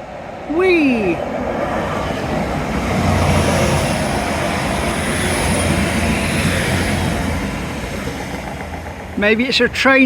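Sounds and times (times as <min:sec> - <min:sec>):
diesel train passing: 0:00.0 - 0:10.0.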